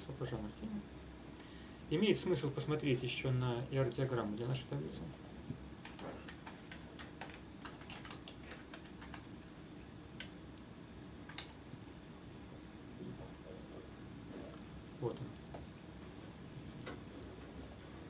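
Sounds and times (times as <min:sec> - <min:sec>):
computer keyboard typing: 0:00.0 - 0:18.0.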